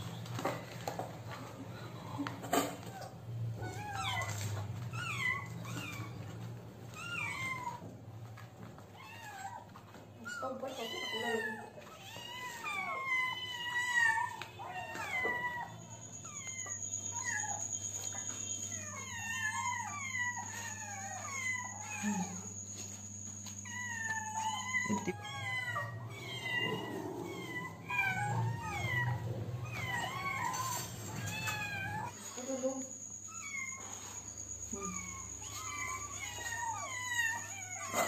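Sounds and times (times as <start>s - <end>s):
kittens meowing: 3.6s - 7.9s, 9.0s - 17.7s, 18.3s - 22.9s, 23.5s - 32.1s, 33.3s - 38.0s.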